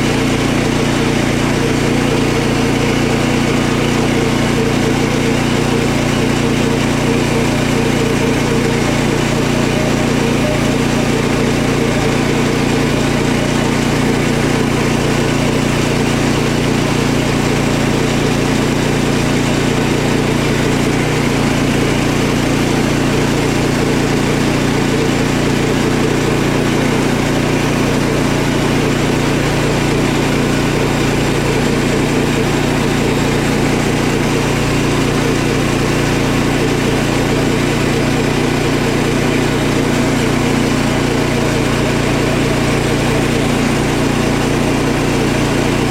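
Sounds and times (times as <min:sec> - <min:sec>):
sawmill blade sawing log: 0:00.0 - 0:45.9.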